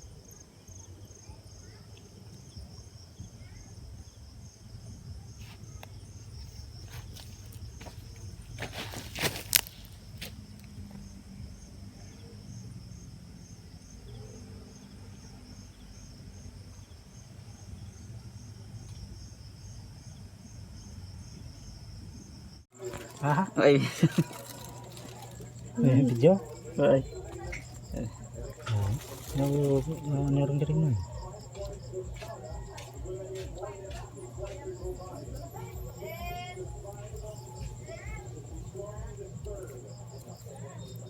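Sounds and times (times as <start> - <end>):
insects trilling: 0.0 - 41.0
low outdoor rumble: 0.0 - 41.0.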